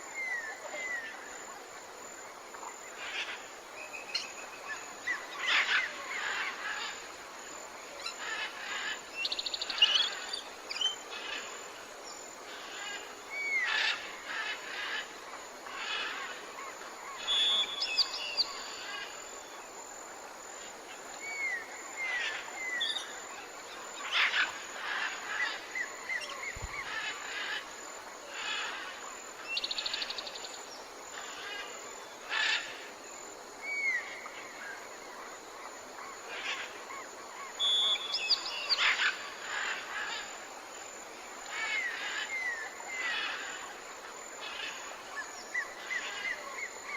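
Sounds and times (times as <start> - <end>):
faint outdoor hiss: 0.0 - 46.9.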